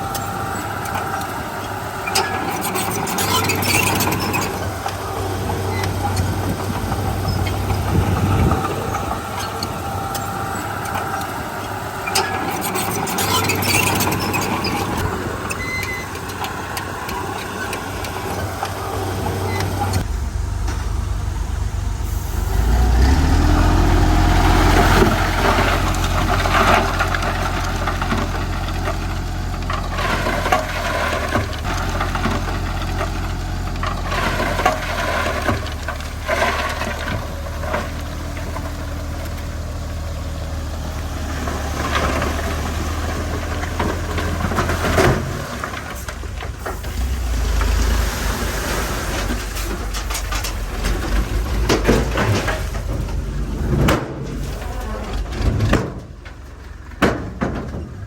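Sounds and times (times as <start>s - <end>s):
bulldozer diesel engine running: 0.0s - 58.0s
clanks and scraping: 0.0s - 58.0s.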